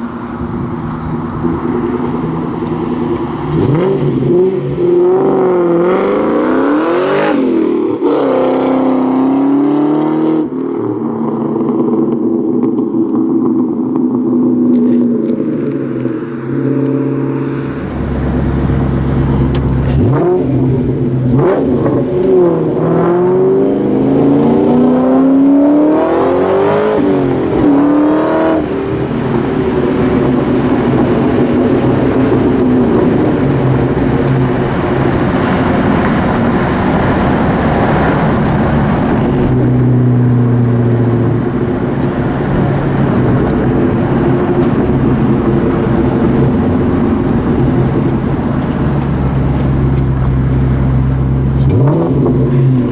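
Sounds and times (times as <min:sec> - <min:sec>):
car engine idling and revving: 0:00.0 - 0:52.9.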